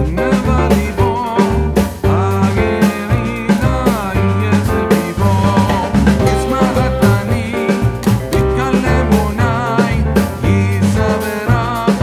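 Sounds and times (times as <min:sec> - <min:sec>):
song with drum beat: 0:00.0 - 0:12.0.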